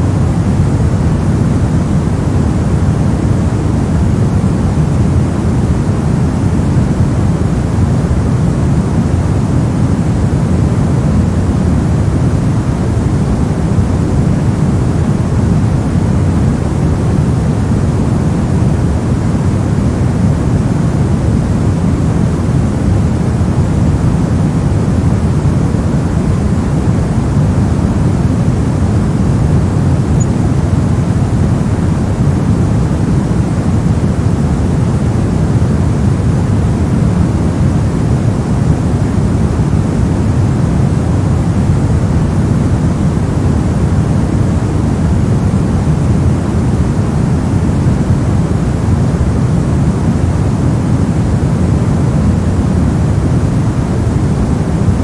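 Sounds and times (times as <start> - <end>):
low white noise rush: 0.0 - 55.0.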